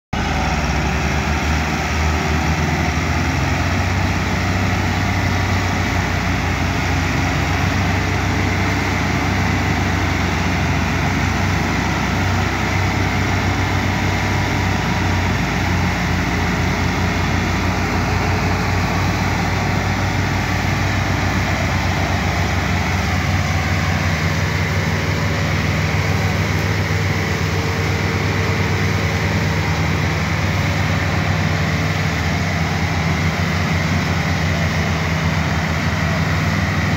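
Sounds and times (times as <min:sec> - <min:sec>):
second tractor engine: 0:00.1 - 0:36.9
tractor diesel engine under load: 0:00.1 - 0:36.9.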